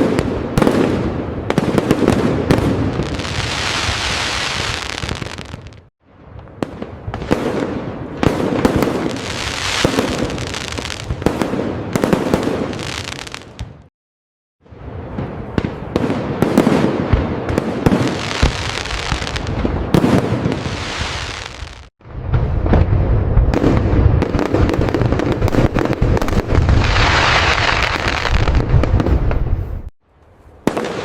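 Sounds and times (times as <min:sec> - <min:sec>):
firework bangs: 0:00.0 - 0:05.9, 0:06.5 - 0:13.9, 0:14.7 - 0:29.9, 0:30.6 - 0:31.0
fireworks crackling: 0:00.0 - 0:05.9, 0:06.5 - 0:13.9, 0:14.8 - 0:29.9, 0:30.6 - 0:31.0.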